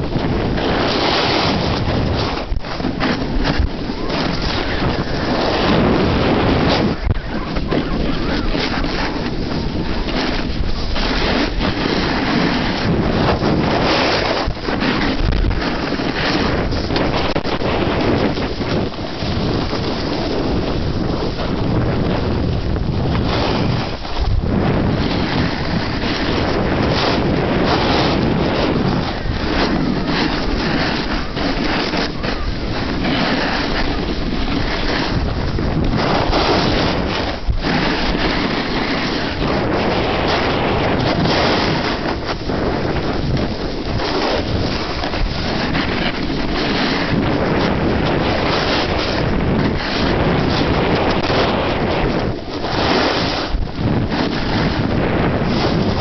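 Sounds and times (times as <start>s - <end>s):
snowboard sliding over snow: 0.0s - 56.0s
wind on microphone: 0.0s - 56.0s.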